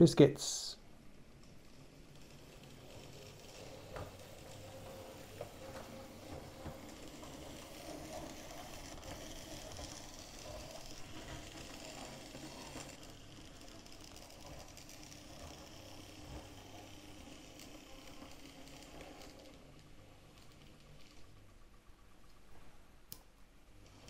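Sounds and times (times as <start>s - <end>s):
model train motor whirring: 1.0s - 22.5s, 23.6s - 24.0s
wheels clicking over rail joints: 1.4s - 21.3s.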